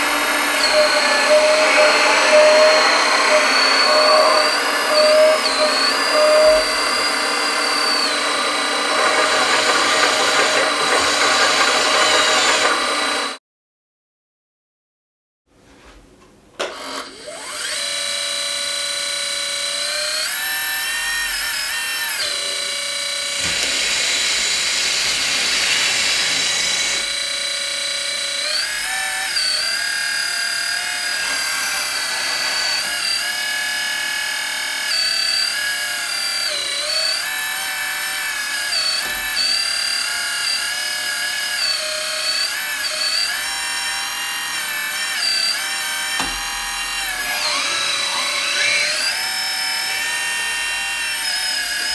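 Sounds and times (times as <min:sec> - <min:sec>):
hydraulic pump whining: 0:00.0 - 0:13.4, 0:16.6 - 0:51.9.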